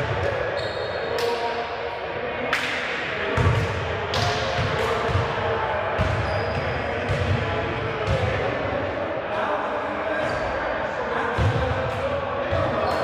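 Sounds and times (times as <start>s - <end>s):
players' voices: 0.0s - 13.0s.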